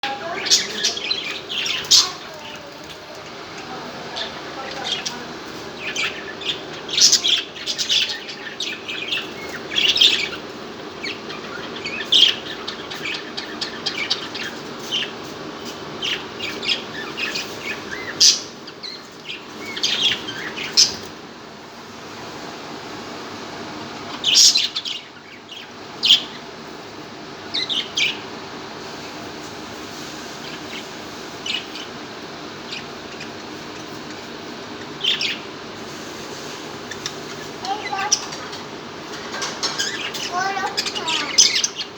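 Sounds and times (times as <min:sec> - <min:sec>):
budgerigars chirping: 0:00.1 - 0:15.2, 0:16.0 - 0:21.2, 0:23.8 - 0:26.5, 0:27.4 - 0:28.3, 0:30.4 - 0:35.6, 0:36.7 - 0:41.9.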